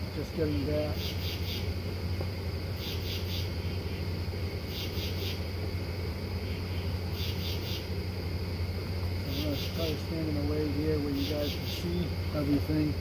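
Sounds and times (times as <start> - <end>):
night insects chirping: 0.0 - 13.0
steady low hum: 0.0 - 13.0.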